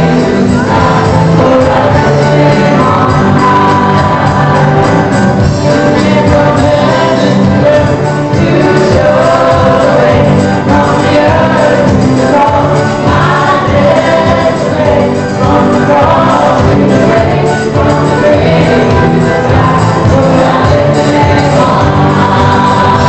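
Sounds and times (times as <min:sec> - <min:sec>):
children's choir singing gospel: 0:00.0 - 0:23.0
instrumental accompaniment with beat: 0:00.0 - 0:23.0.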